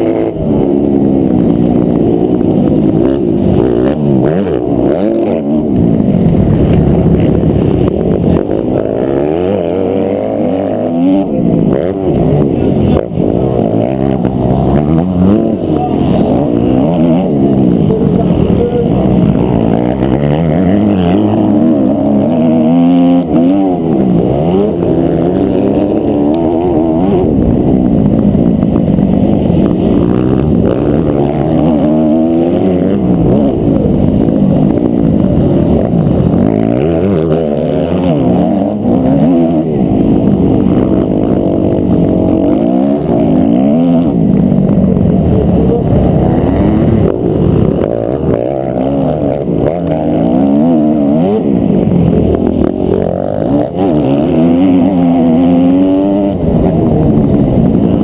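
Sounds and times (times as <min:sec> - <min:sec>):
muffled motorbike engine revving: 0:00.0 - 0:58.0.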